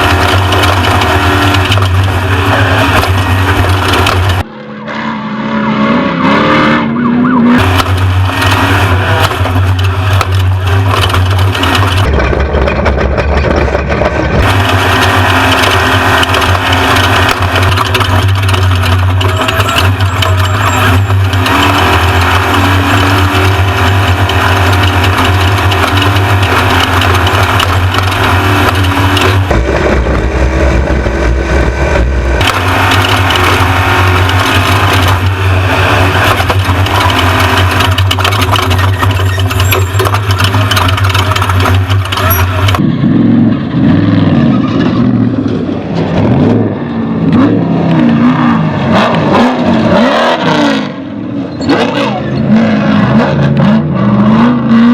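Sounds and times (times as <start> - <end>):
road and rattle noise: 0.0 - 54.9
truck engine revving: 0.0 - 54.9.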